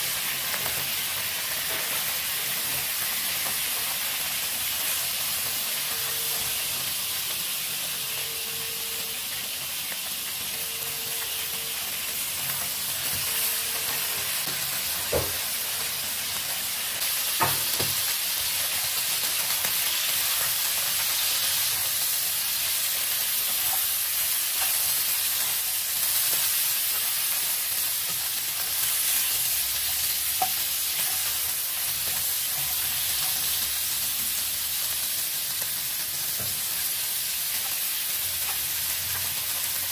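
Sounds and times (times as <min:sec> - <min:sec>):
meat sizzling in a wok: 0:00.0 - 0:39.9.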